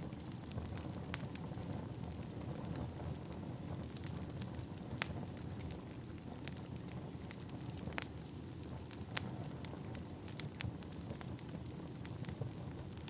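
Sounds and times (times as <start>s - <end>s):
fire rumbling: 0.0s - 13.0s
firewood popping and crackling: 0.0s - 13.0s.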